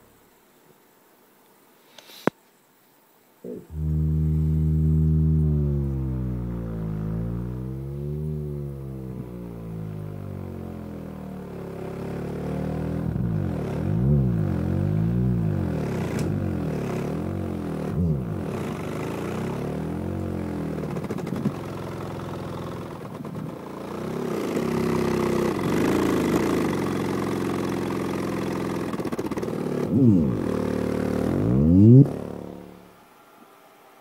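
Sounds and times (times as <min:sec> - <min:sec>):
deep buzzy subwoofer tone gliding: 0:03.4 - 0:23.1, 0:24.7 - 0:32.9.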